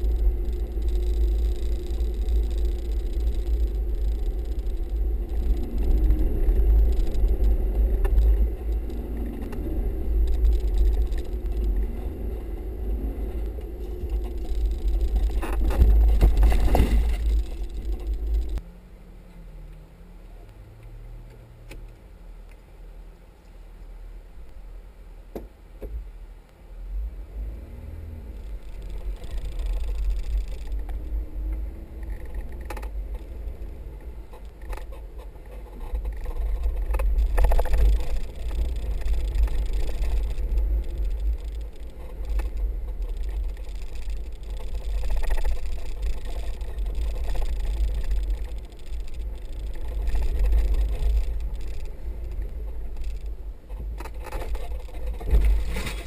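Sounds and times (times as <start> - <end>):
low engine rumble: 0.0 - 56.0
wind: 0.0 - 56.0.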